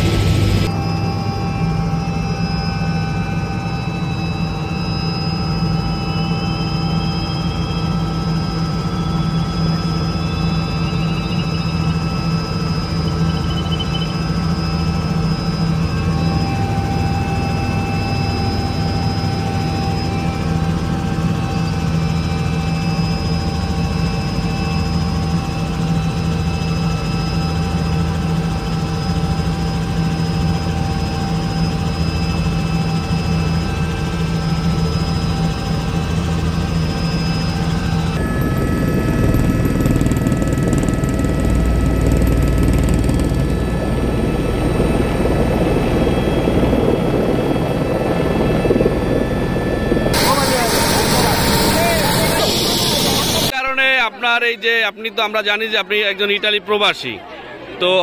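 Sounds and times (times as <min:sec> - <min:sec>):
turbine engine whine: 0:00.0 - 0:53.6
helicopter rotors droning: 0:00.0 - 0:54.2.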